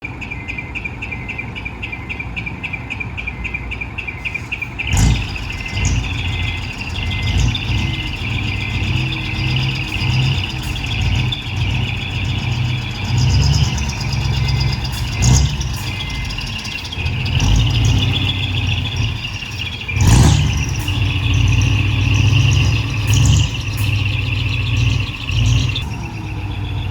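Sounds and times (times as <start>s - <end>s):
diesel engine idling and revving: 0.0s - 26.9s
high ticking: 4.4s - 26.9s
sharp loud exhaust burst: 4.8s - 26.9s.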